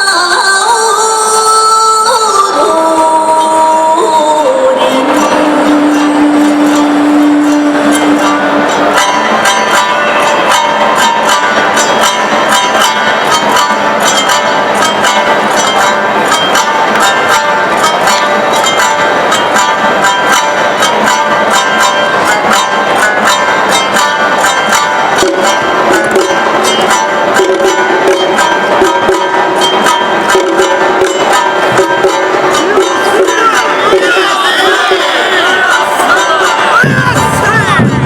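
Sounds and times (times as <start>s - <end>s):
held melody line: 0.0s - 38.0s
shamisen playing: 0.0s - 38.0s
drums: 4.9s - 38.0s.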